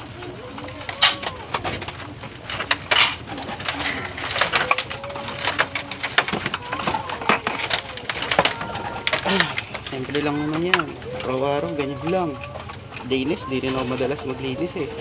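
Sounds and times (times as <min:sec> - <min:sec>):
sharp clicks and knocks: 0:00.0 - 0:14.1
rustling: 0:00.0 - 0:14.3
pigeons cooing: 0:00.0 - 0:15.0.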